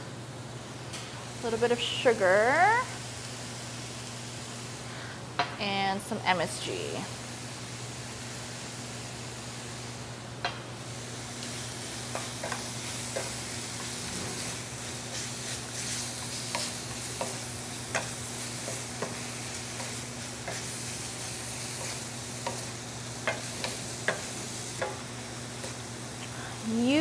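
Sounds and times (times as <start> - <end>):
paste sizzling in pan: 1.4 - 5.1, 6.0 - 10.2, 10.8 - 27.0.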